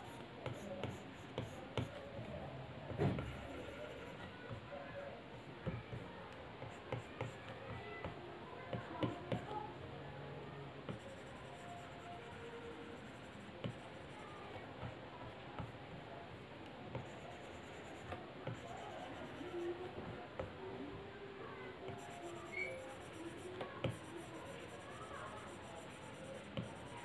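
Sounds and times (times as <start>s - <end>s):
faint background music: 0.0s - 27.0s.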